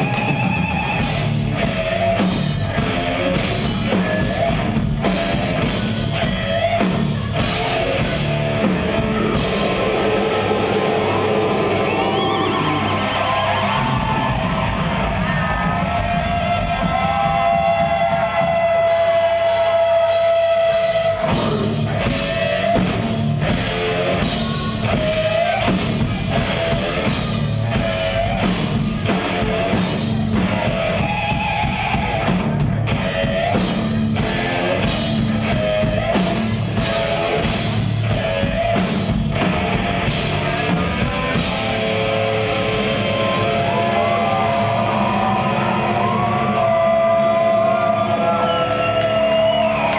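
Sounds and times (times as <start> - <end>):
death metal band playing live: 0.0 - 49.9
distorted electric guitars: 0.0 - 49.9
driving drums: 0.0 - 49.9.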